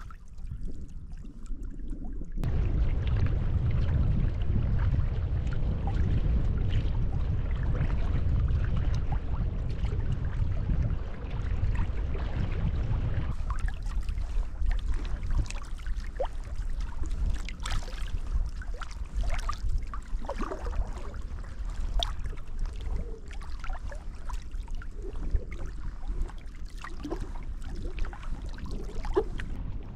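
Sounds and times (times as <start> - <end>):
paddle water splashing and dripping: 0.0 - 29.9
water lapping at hull: 0.0 - 29.9
wind rumble on microphone: 0.0 - 29.9.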